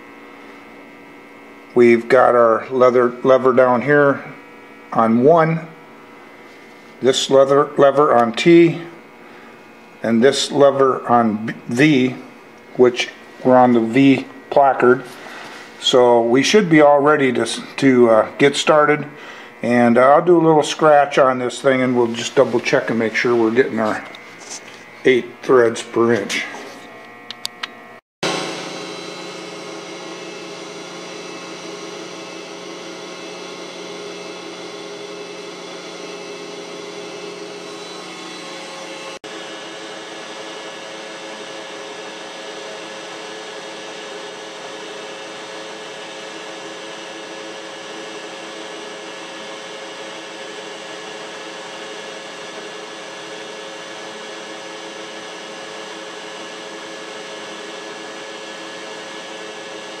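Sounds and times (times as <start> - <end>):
metal lathe humming and whining: 0.0 - 60.0.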